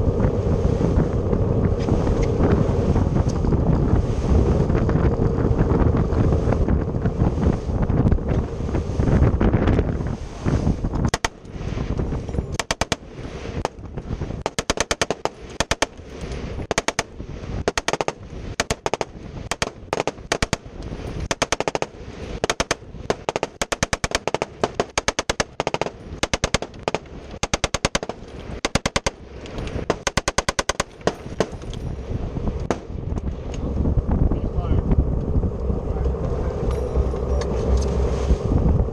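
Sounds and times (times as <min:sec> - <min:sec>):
water noise from boat: 0:00.0 - 0:38.9
wind: 0:00.0 - 0:38.9.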